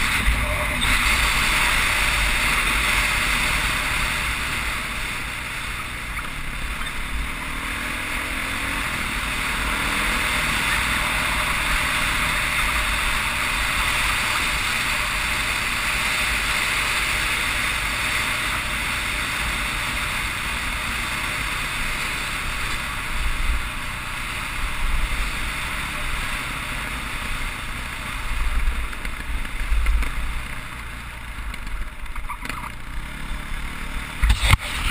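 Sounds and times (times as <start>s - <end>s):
dirt bike engine: 0.0s - 34.9s.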